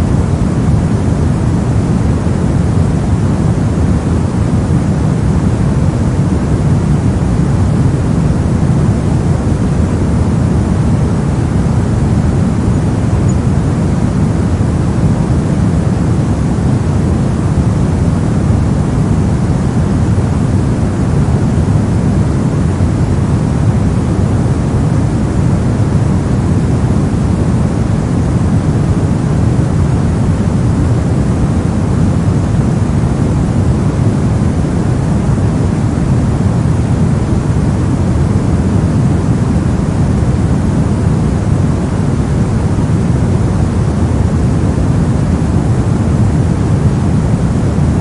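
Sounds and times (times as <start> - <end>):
low rumbling brown noise: 0.0 - 48.0.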